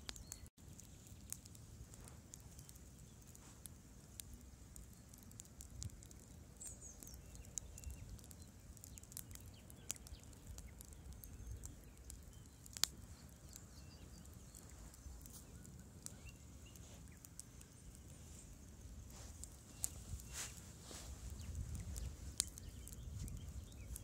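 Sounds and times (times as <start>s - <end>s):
faint bird chirp: 0.0s - 1.5s, 4.7s - 24.0s
campfire crackling and popping: 0.0s - 24.0s.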